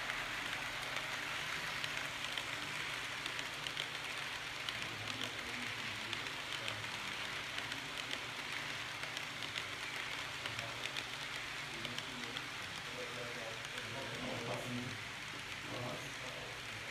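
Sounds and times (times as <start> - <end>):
model train wheels rolling: 0.0 - 16.9.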